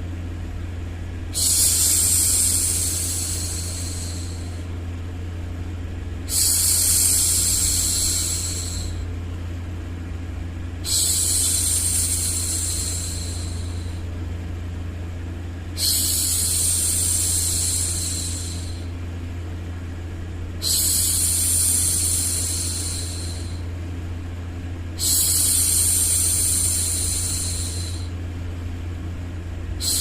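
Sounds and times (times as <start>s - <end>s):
low white noise hum: 0.0s - 30.0s.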